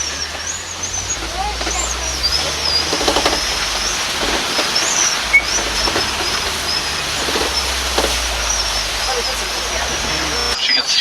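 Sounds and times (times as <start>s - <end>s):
light clacks: 0.0s - 10.6s
ride vehicle rumble and hiss: 0.0s - 10.6s.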